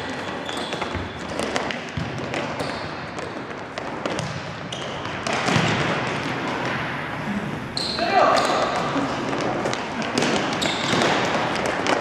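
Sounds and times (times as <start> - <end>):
footsteps on indoor court: 0.0 - 12.0.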